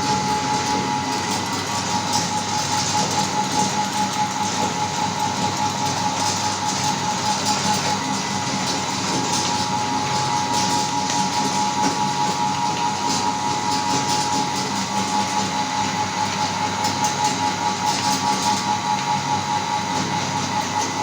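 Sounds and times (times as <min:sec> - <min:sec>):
electric meat grinder whine: 0:00.0 - 0:21.0.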